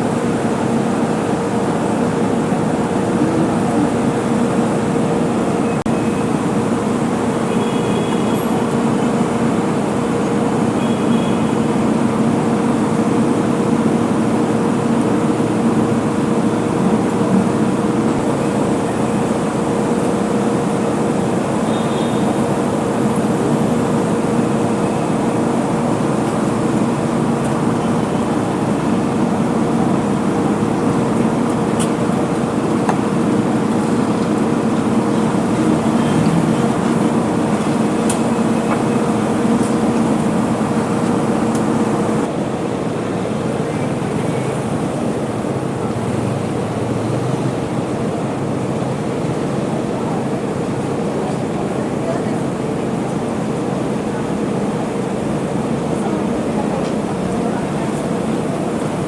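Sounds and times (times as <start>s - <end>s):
city road traffic: 0.0s - 59.0s
droning engine hum: 0.0s - 59.0s.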